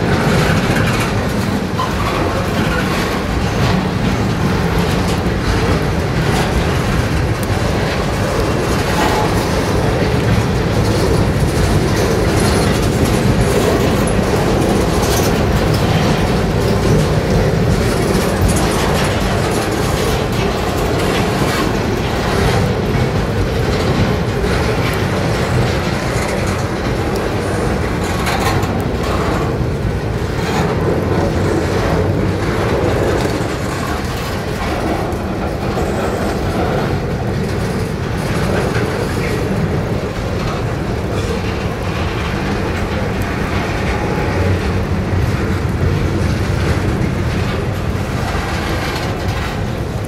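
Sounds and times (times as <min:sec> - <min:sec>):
wheels clicking over rail joints: 0:00.0 - 0:50.0.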